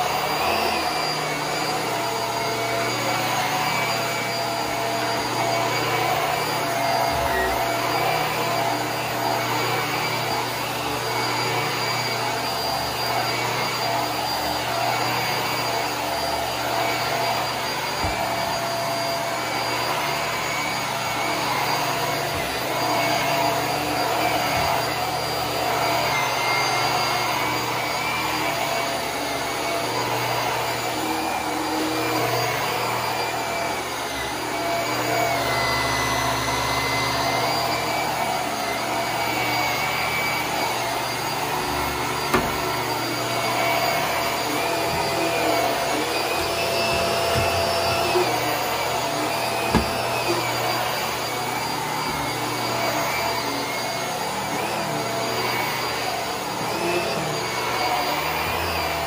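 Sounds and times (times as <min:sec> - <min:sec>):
vacuum cleaner running over carpet: 0:00.0 - 0:59.0.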